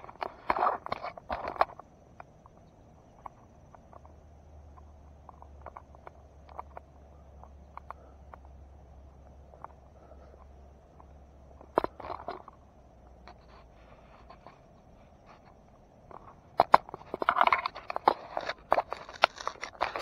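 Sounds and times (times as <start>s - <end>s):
grass and brush crackling: 0.0s - 20.0s.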